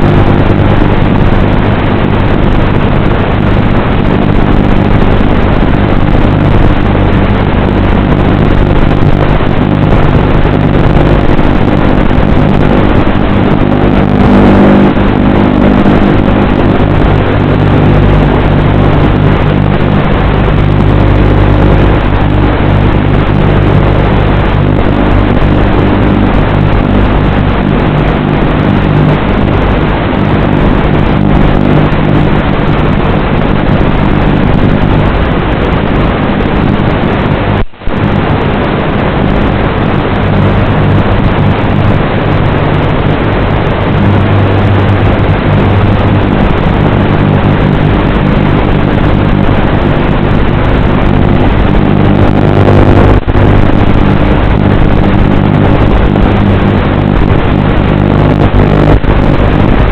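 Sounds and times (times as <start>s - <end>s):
drone motors buzzing: 0.0s - 59.9s.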